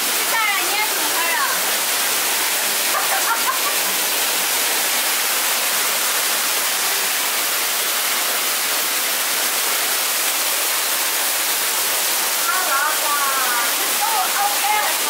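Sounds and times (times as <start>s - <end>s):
water falling and splashing: 0.0s - 15.0s.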